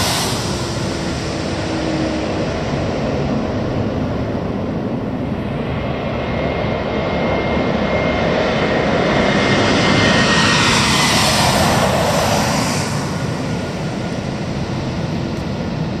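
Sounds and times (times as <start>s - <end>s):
jet airliner passing overhead: 0.0s - 16.0s.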